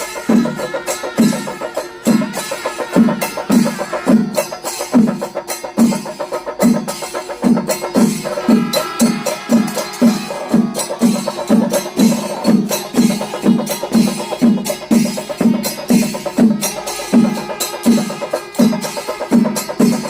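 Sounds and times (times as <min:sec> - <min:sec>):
drums and cymbals ensemble: 0:00.0 - 0:20.0.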